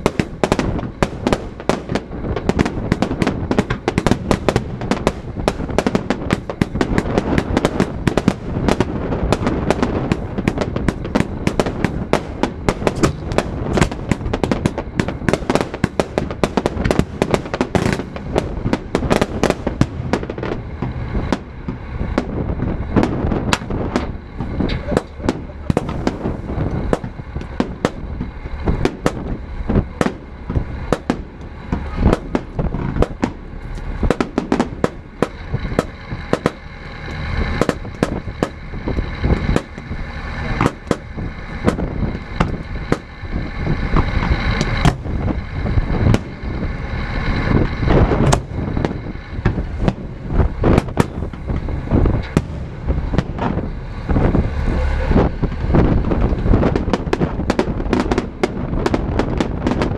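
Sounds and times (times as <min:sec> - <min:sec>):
fireworks bursts and bangs: 0:00.0 - 0:59.9
low rumble: 0:00.0 - 0:59.9.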